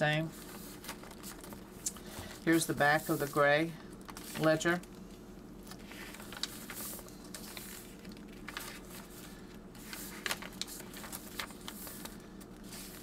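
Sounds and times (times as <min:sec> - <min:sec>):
faint steady hum: 0:00.0 - 0:13.0
heavy paper pages rustling: 0:00.2 - 0:05.0, 0:05.6 - 0:13.0.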